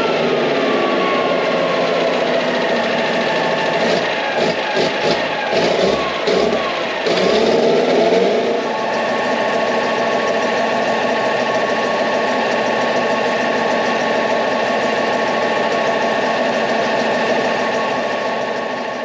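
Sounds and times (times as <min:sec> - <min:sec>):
petrol engine idling: 0:00.0 - 0:19.0.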